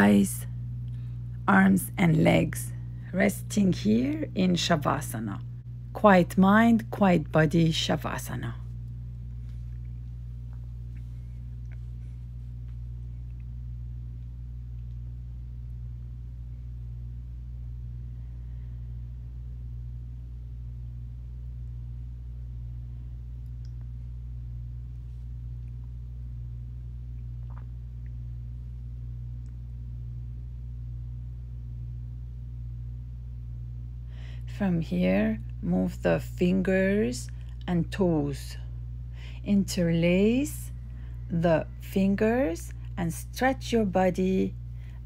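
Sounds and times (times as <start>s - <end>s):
low room hum: 0.0s - 45.0s.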